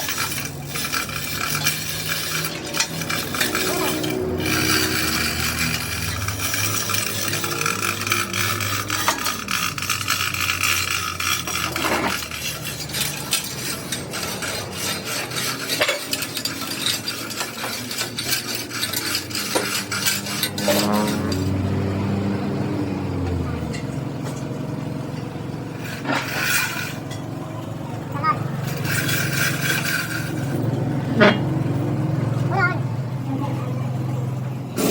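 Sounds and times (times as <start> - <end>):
metal crackling and scraping: 0.0 - 22.2, 23.3 - 32.9, 34.6 - 34.9.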